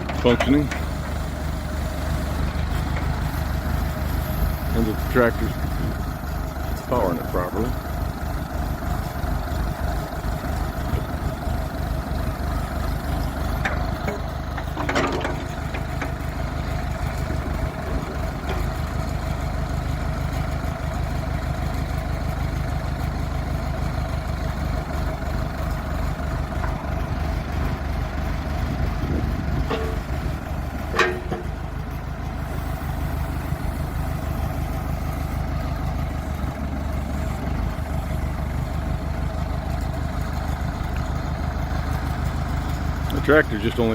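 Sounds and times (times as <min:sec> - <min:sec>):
tractor diesel engine idling: 0:00.0 - 0:43.9.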